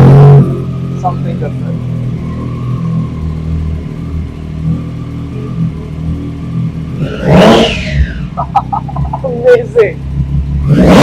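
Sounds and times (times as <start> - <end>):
motorcycle engine idling: 0.6 - 7.0, 8.2 - 10.7.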